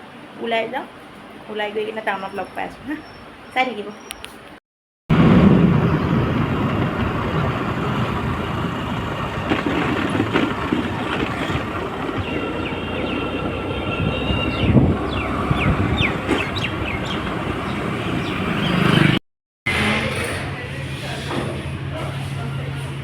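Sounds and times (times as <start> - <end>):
vehicle rumble and rattle: 4.1 - 23.0.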